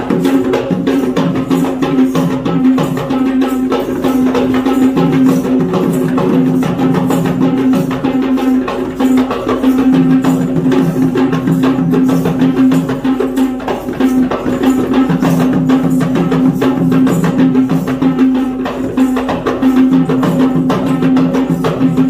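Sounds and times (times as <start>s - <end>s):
rapid drumming: 0.0s - 22.0s.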